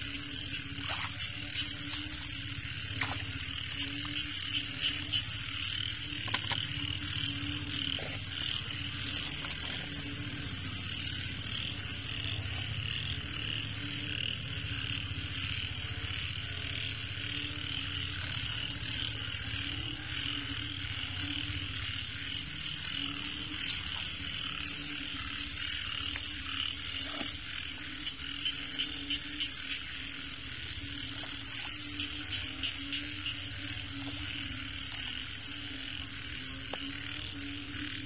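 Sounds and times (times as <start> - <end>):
frogs calling: 0.0 - 38.0.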